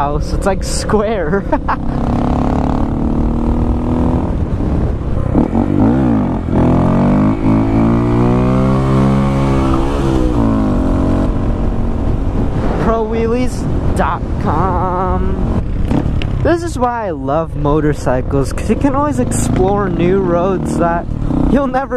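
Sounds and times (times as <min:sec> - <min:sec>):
motorcycle engine revving: 0:00.8 - 0:12.9, 0:14.5 - 0:16.6, 0:18.4 - 0:21.9.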